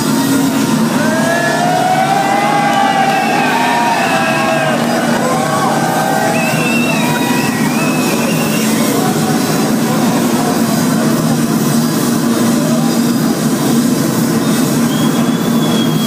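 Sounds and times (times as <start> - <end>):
low droning hum: 0.0 - 16.0
rumbling din in hall: 0.0 - 16.0.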